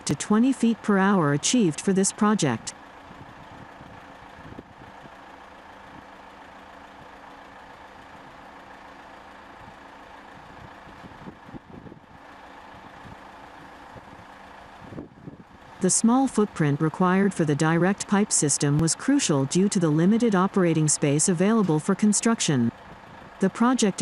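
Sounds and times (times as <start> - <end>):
heavy machinery engines humming: 0.0 - 24.0.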